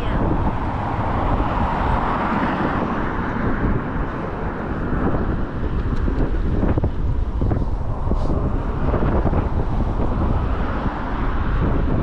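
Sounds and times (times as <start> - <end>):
road vehicle passing: 0.0 - 12.0
wind rumble on microphone: 0.0 - 12.0.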